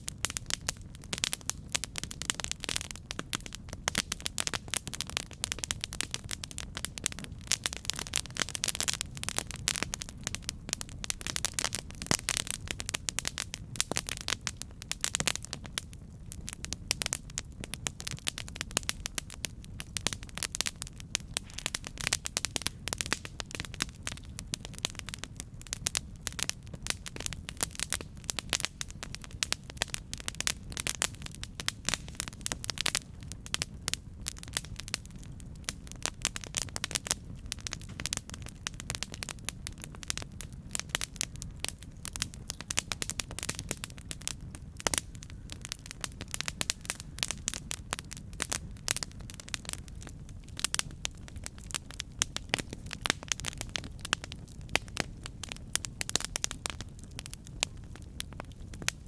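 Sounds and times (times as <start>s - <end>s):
campfire crackling and popping: 0.0s - 59.0s
low rumble of flames: 0.0s - 59.0s.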